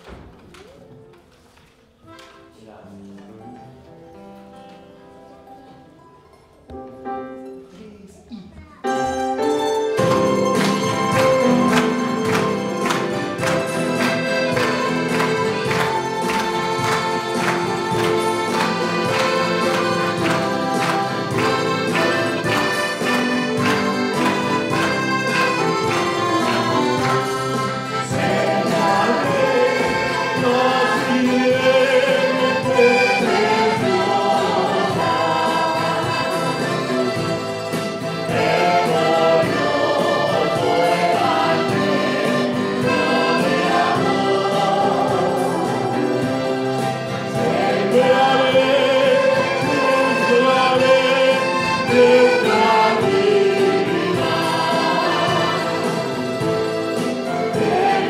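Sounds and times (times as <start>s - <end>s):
band playing a hymn: 8.9s - 58.0s
choir singing: 9.8s - 58.0s.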